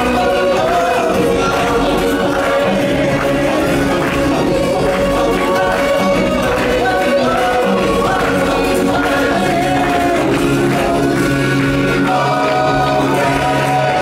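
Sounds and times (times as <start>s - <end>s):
music with singing voices: 0.0s - 14.0s.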